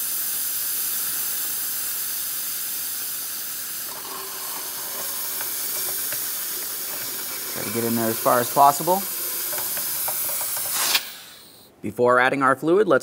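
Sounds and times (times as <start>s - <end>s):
fluid extractor hissing: 0.0s - 11.7s.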